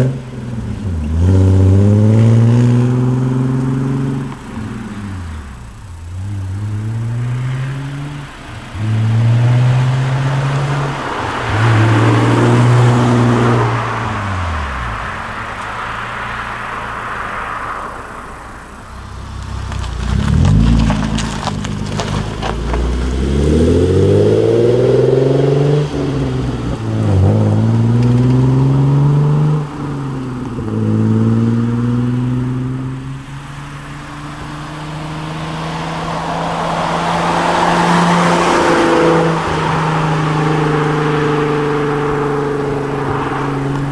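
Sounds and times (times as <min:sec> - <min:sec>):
car engine accelerating and revving: 0:00.0 - 0:43.9.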